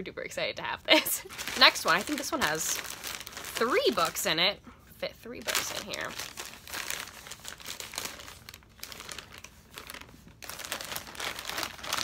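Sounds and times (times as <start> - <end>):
plastic packaging rustling: 1.0 - 4.4, 5.4 - 12.0.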